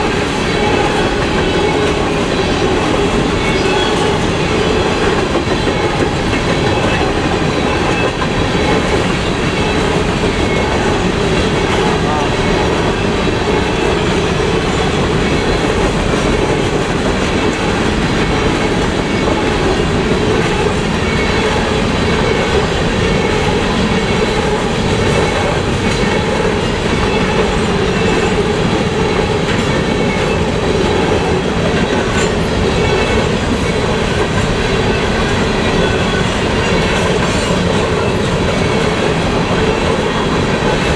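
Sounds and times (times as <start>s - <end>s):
freight train wheels on rails: 0.0s - 40.9s.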